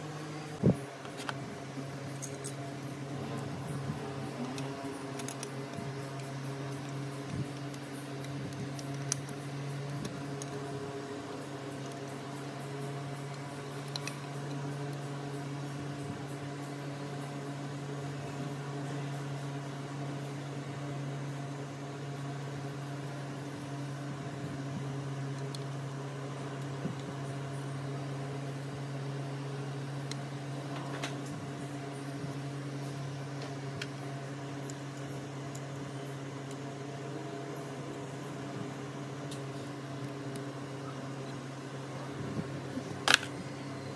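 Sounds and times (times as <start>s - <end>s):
low electric hum: 0.0s - 43.9s.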